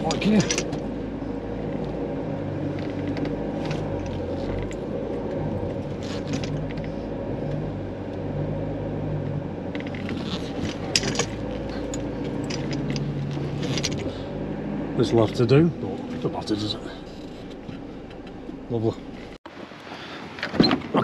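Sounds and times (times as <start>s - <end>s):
campervan engine running: 0.0s - 20.5s.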